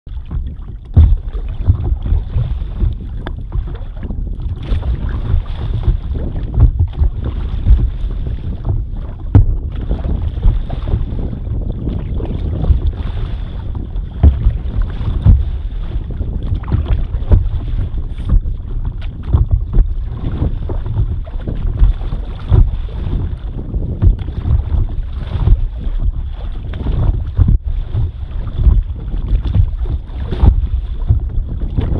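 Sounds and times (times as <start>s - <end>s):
water splashing against board: 0.1s - 31.9s
wind buffeting microphone: 0.1s - 31.9s.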